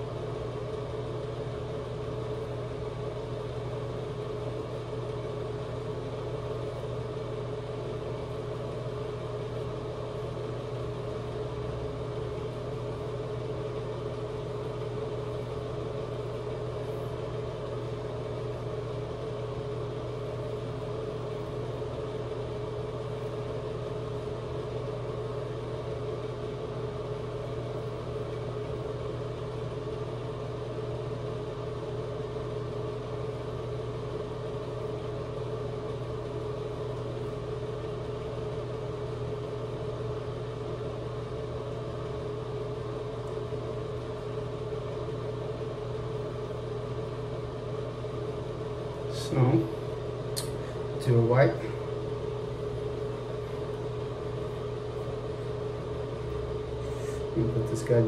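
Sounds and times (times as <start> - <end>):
machine hum: 0.0 - 58.0.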